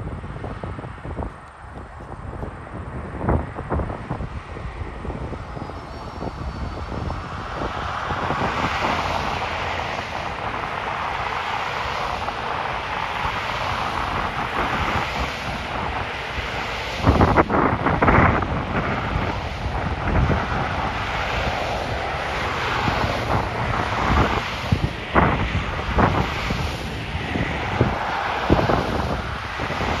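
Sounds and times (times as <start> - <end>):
cars passing on highway: 0.0 - 30.0
wind buffeting microphone: 0.0 - 30.0.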